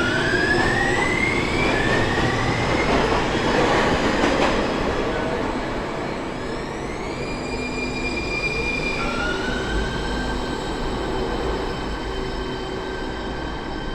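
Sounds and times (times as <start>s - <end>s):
train high whine: 0.0s - 13.9s.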